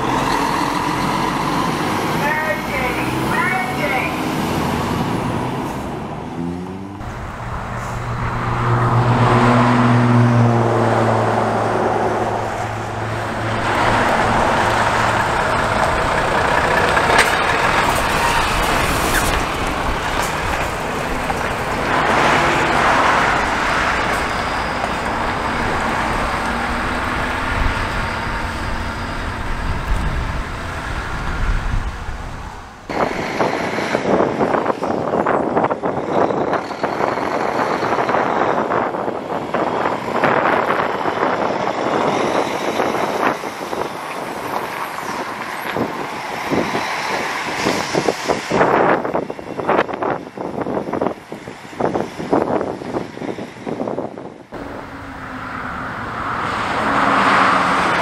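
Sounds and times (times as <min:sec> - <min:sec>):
trucks driving past: 0:00.0 - 0:58.0.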